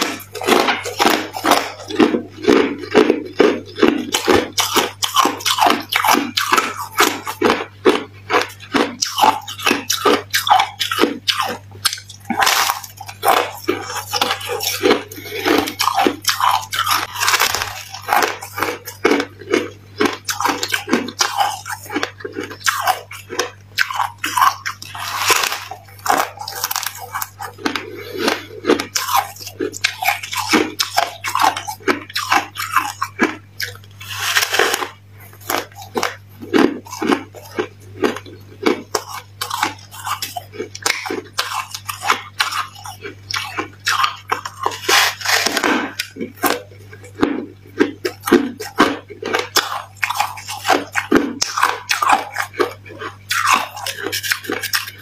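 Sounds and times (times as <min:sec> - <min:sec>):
crunching of chewed frost: 0:00.0 - 0:55.0.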